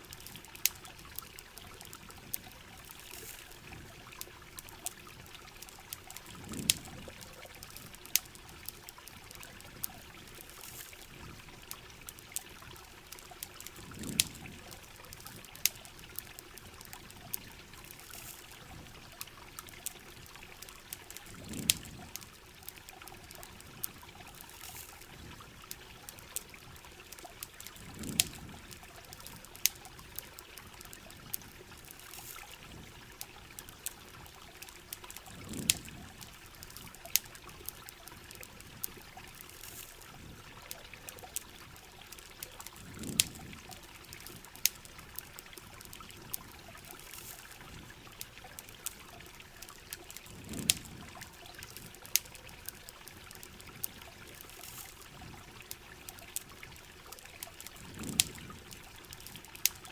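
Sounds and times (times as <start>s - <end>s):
campfire crackling and popping: 0.0s - 59.9s
steady rain: 0.0s - 59.9s
water trickling: 0.0s - 59.9s.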